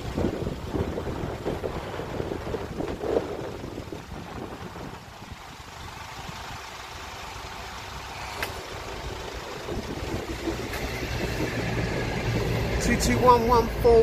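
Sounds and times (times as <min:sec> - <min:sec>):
wind on microphone: 0:00.0 - 0:06.8, 0:08.0 - 0:13.8
vehicles idling: 0:00.0 - 0:14.0.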